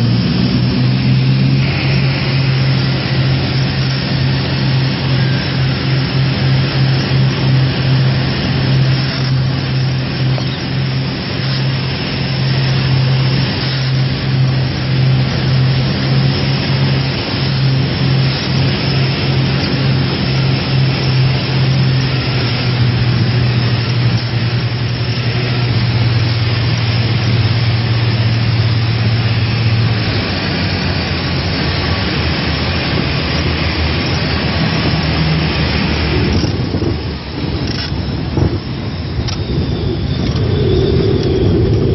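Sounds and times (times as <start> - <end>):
propeller aircraft engine droning: 0.0 - 41.9.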